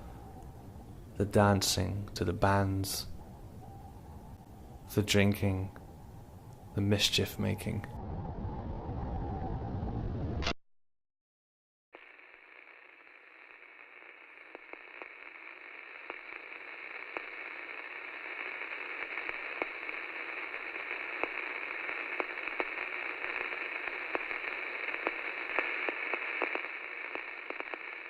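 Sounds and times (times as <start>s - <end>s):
static hiss with crackles: 0.0s - 8.0s, 12.0s - 28.0s.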